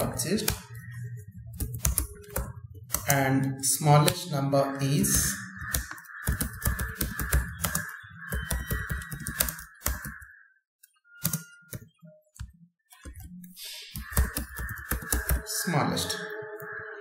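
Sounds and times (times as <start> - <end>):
computer keyboard typing: 0.0 - 4.3, 5.0 - 10.3, 11.2 - 15.6.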